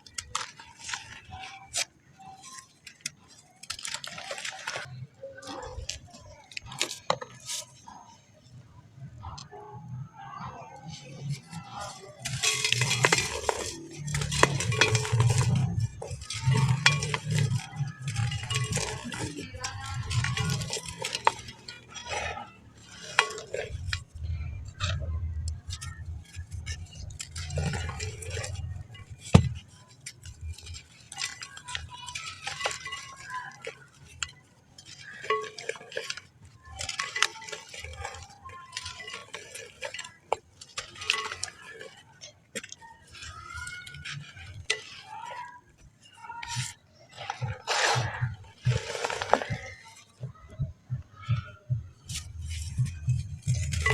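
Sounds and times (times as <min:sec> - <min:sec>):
sand chunks crumbling: 0:00.0 - 0:07.9, 0:10.7 - 0:53.9.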